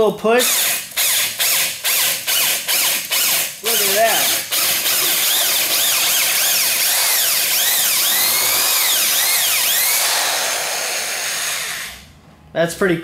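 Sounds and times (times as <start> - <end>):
electric drill motor whine: 0.4 - 12.1.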